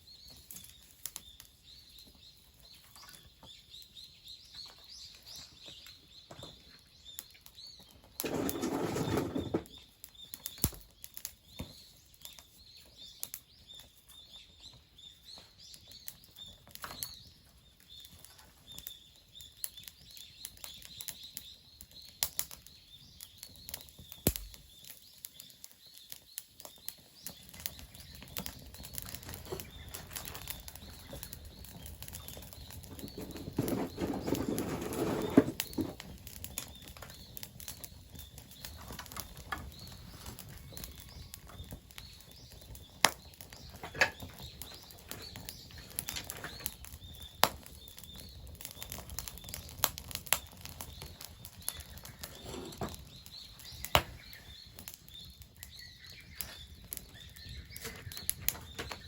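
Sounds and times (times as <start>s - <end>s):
wood fire crackling: 6.8s - 59.0s.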